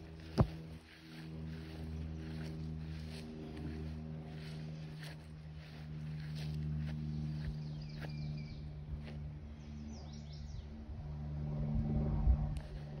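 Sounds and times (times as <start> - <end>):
small birds chirping: 0.0 - 10.8
low motor hum: 0.0 - 13.0.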